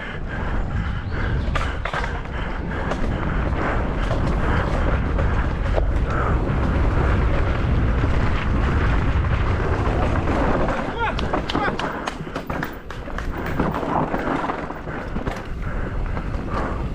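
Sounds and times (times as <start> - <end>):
wind rushing over microphone: 0.0 - 16.9
bike knocks and rattles: 1.2 - 16.9.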